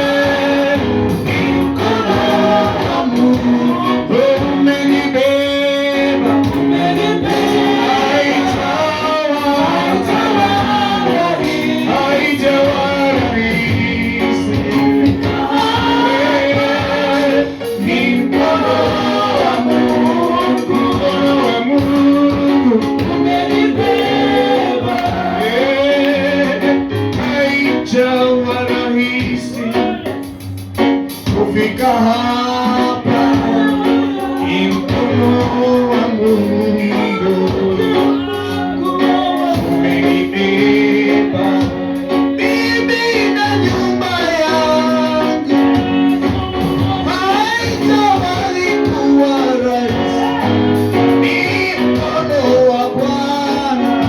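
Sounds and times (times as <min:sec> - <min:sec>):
voices singing slow melody: 0:00.0 - 0:30.6, 0:31.3 - 0:54.0
sustained instrumental accompaniment: 0:00.0 - 0:54.0.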